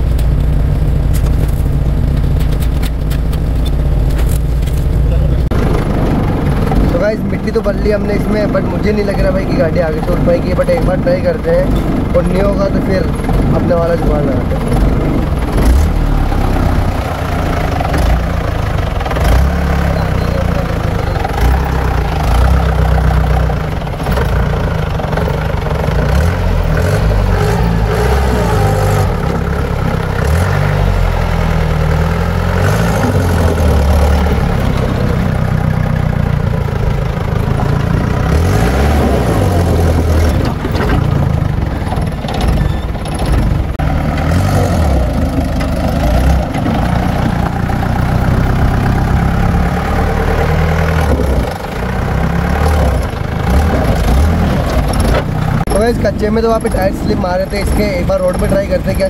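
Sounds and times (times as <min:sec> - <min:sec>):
jeep engine revving: 0:00.0 - 0:59.0.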